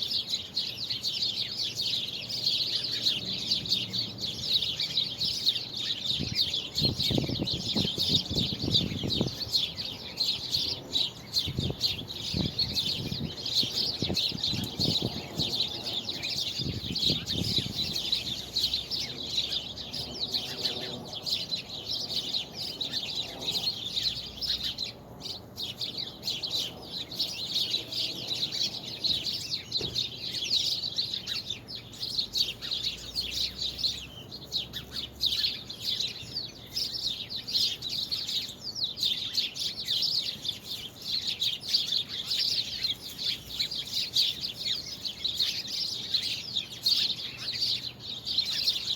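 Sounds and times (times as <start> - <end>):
flock of small birds chirping: 0.0 - 48.9.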